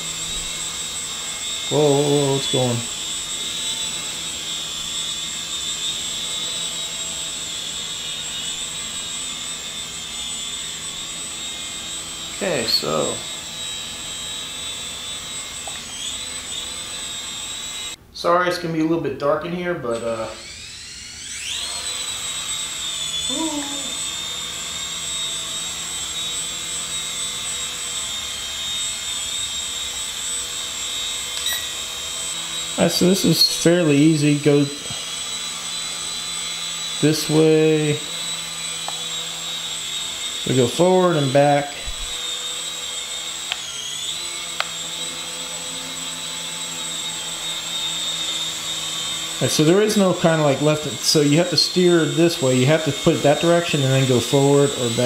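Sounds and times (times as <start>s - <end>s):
toy helicopter motors whining: 0.0s - 18.0s, 19.9s - 55.0s.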